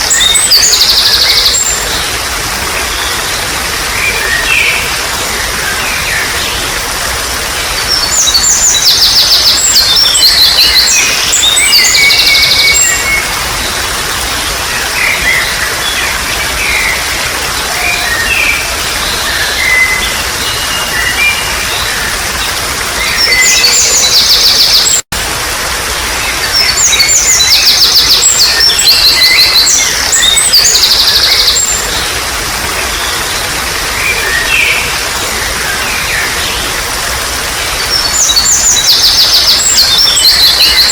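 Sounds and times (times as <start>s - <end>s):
songbirds singing: 0.0s - 40.9s
trickling water: 0.0s - 40.9s.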